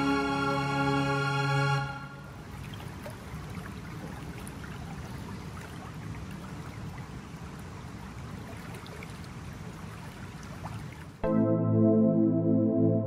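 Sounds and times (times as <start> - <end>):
water rushing in a canal: 0.0 - 11.2.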